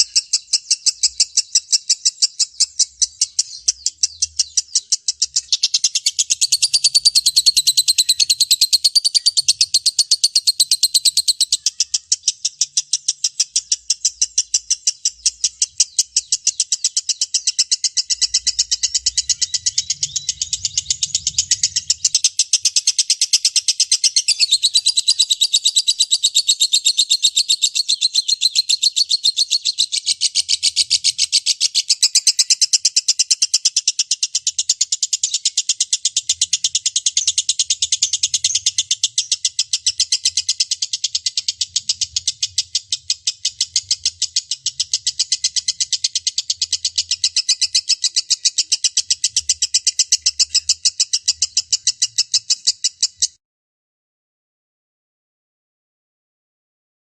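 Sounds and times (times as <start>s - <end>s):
bird chattering trill: 0.0s - 53.4s.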